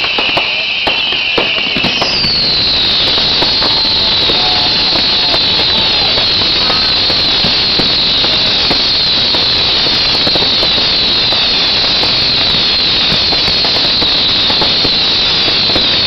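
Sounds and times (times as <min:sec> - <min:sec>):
fireworks hissing and crackling: 0:00.0 - 0:16.0.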